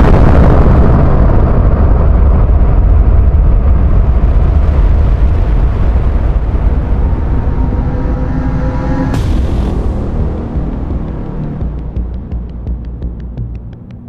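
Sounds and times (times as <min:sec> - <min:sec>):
explosion rumble: 0:00.0 - 0:14.0.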